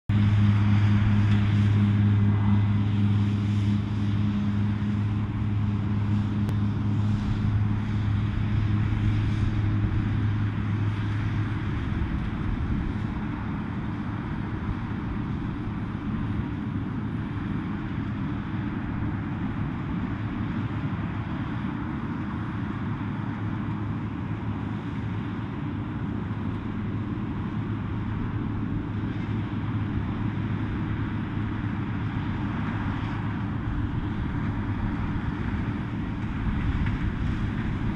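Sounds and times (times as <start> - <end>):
combine harvester running: 0.1 - 37.9
low hum: 0.1 - 37.9.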